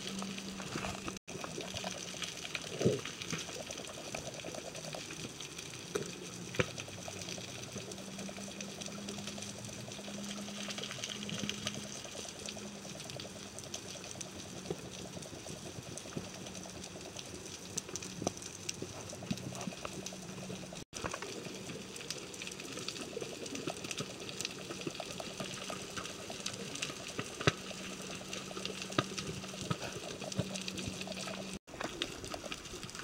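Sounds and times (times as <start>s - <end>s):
underwater motor hum pulsing: 0.0s - 31.6s
faint clicks and crackle: 0.0s - 33.0s.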